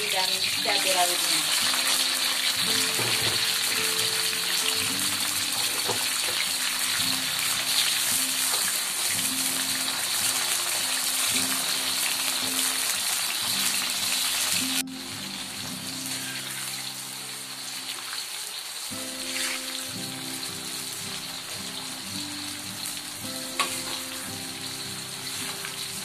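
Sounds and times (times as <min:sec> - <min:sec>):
background music with low notes: 0:00.0 - 0:26.0
vegetables sizzling in hot oil: 0:00.0 - 0:26.0.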